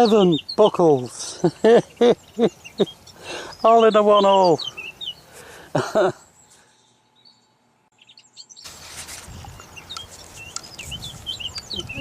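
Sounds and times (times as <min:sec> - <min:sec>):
songbirds chirping: 0:00.0 - 0:12.0
steady outdoor hiss: 0:00.0 - 0:12.0.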